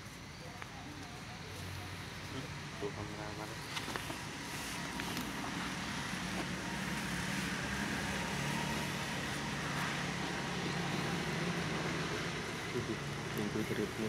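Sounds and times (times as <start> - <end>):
outdoor background hiss: 0.0 - 14.0
motor engine droning: 1.7 - 14.0.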